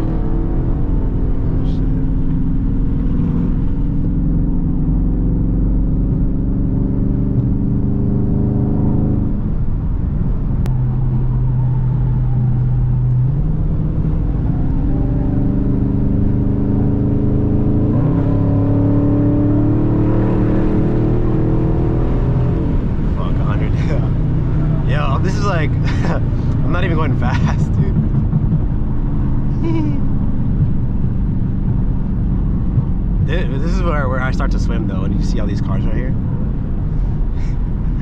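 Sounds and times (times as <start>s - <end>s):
car engine exhaust revving: 0.0s - 38.0s.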